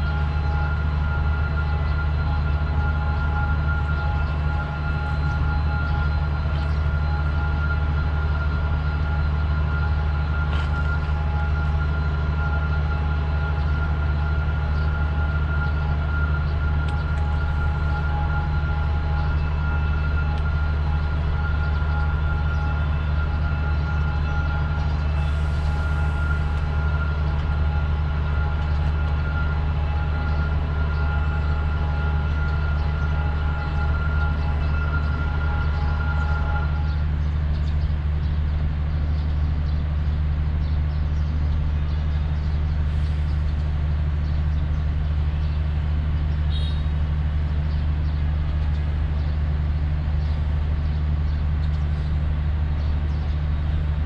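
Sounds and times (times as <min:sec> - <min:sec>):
diesel locomotive droning: 0:00.0 - 0:54.0
high-pitched whine: 0:00.0 - 0:54.0.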